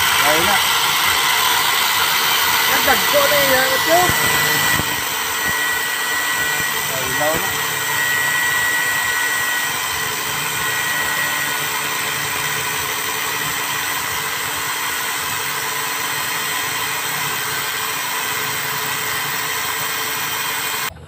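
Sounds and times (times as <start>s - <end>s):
angle grinder cutting metal: 0.0s - 21.0s.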